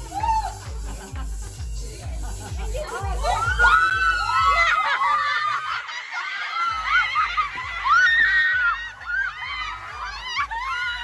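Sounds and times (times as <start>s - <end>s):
people shrieking and laughing: 0.0s - 1.6s, 2.2s - 11.0s
background music with steady beat: 0.0s - 11.0s.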